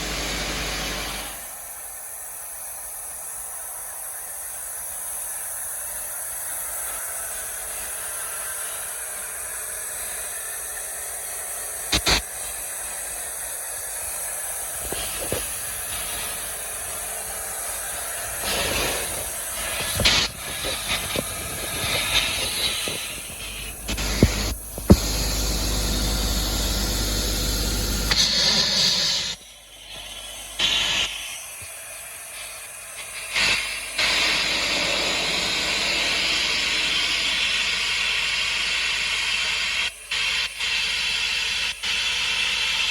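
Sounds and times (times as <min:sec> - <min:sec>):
blast nozzle hissing: 0:00.0 - 0:42.9.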